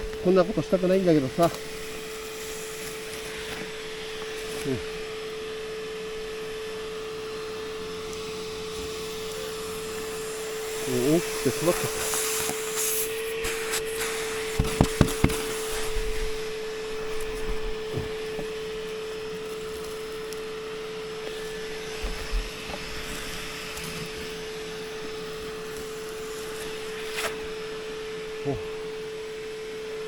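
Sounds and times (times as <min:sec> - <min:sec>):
small motor humming: 0:00.0 - 0:30.0.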